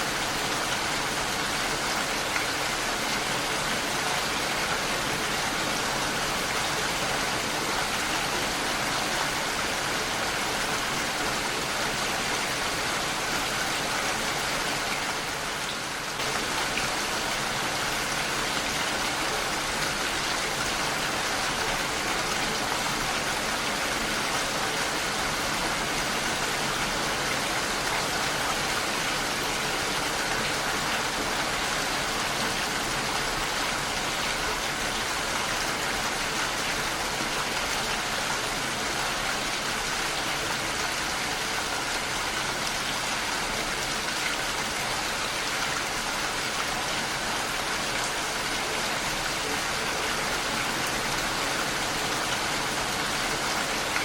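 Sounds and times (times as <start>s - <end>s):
heavy rain on a window: 0.0s - 54.0s.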